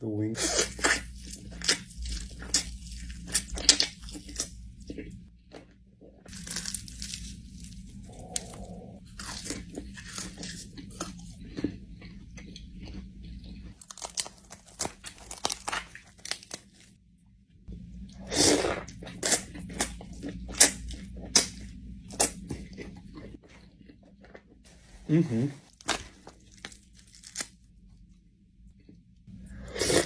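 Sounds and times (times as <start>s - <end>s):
crunchy chewing: 0.4s - 17.0s, 18.3s - 24.8s, 25.6s - 27.6s.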